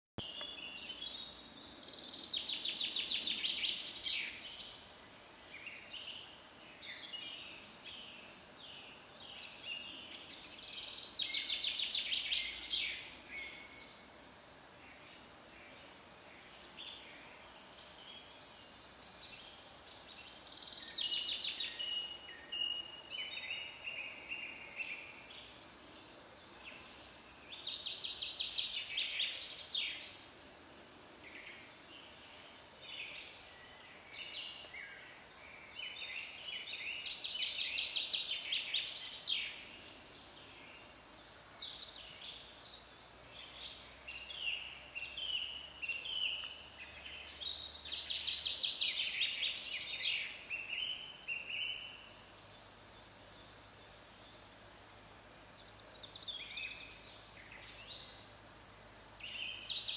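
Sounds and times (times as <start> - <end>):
songbirds trilling: 0.2 - 59.9.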